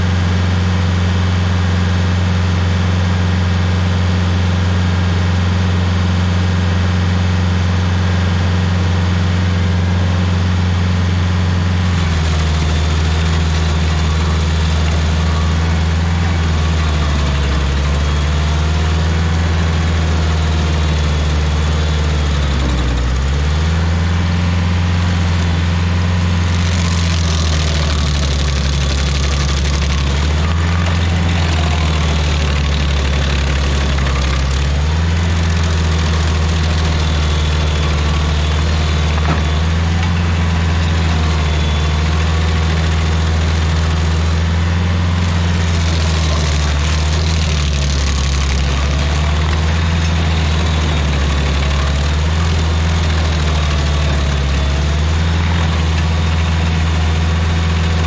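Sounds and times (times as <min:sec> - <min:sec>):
stump grinder engine running: 0:00.0 - 0:58.0.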